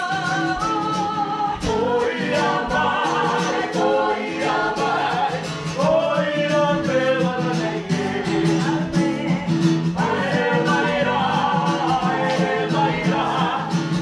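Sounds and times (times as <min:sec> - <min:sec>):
group singing in harmony: 0:00.0 - 0:14.0
strummed acoustic guitar: 0:00.0 - 0:14.0.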